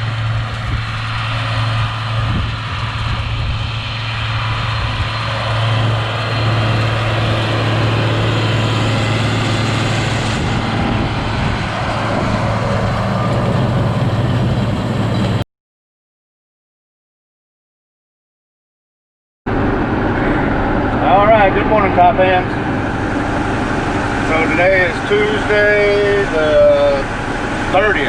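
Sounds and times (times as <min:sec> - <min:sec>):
tractor engine running: 0:00.0 - 0:15.4, 0:19.5 - 0:28.0.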